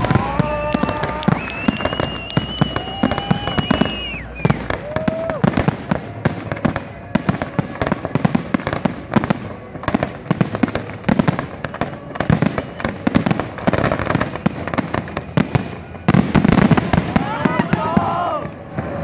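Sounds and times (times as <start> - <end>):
firework bangs and crackling: 0.0 - 19.0.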